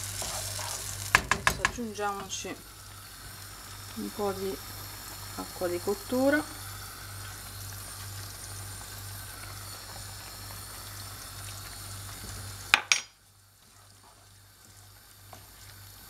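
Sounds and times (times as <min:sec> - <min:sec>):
sauce sizzling in frying pan: 0:00.0 - 0:16.0.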